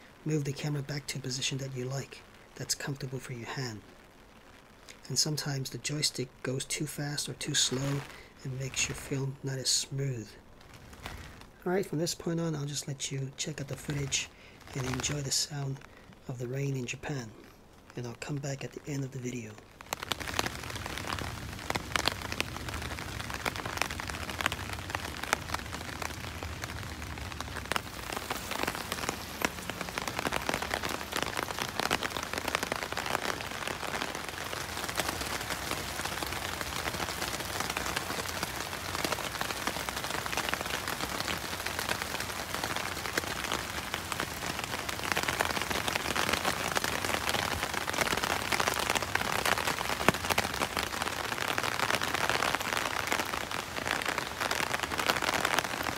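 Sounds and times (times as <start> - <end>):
raindrops ticking close by: 0.0 - 55.9
steady rain falling: 0.0 - 55.9.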